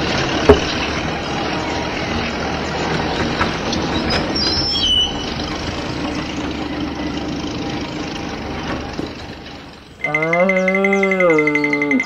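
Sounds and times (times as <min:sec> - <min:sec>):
motor humming: 0:00.0 - 0:10.2.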